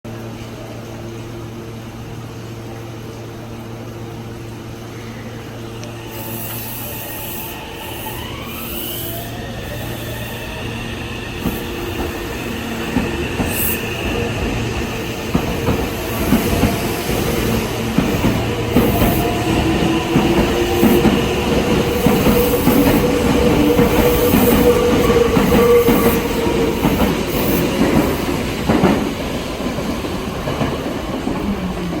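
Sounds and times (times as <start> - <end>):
train passing: 0.2 - 32.0.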